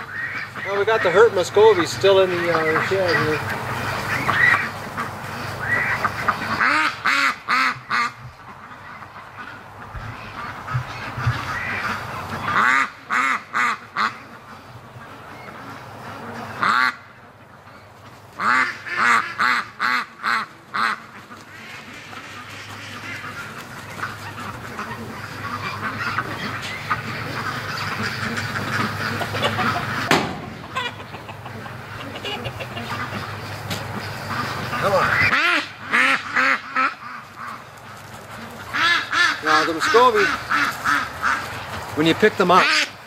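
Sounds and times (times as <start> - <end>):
ducks quacking: 0.0 - 43.0.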